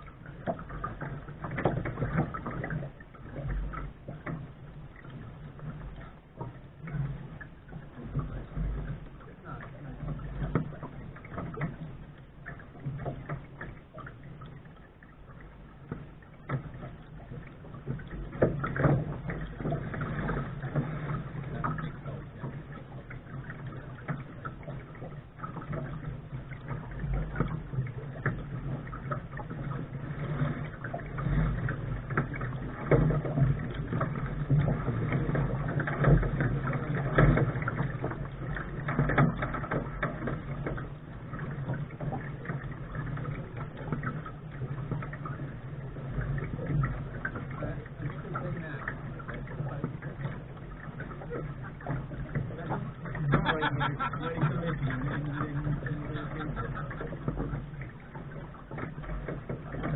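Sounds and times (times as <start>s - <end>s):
water rushing along a hull: 0.0s - 59.9s.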